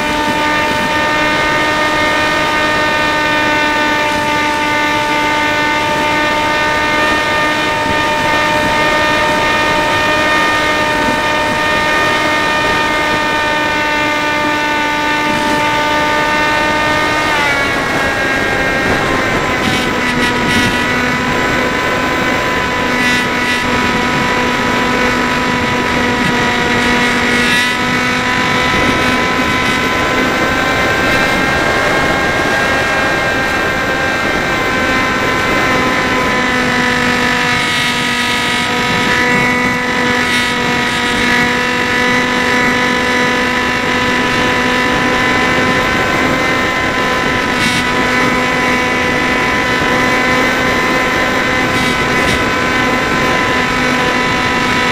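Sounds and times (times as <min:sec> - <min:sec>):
model plane motor whine: 0:00.0 - 0:54.9.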